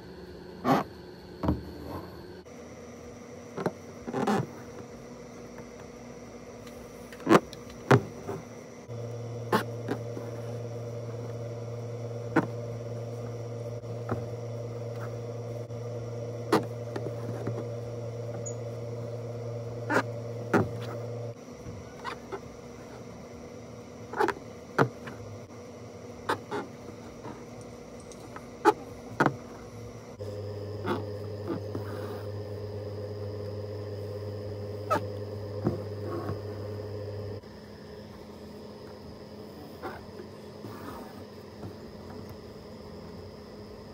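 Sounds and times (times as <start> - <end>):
low hum: 8.1 - 43.5.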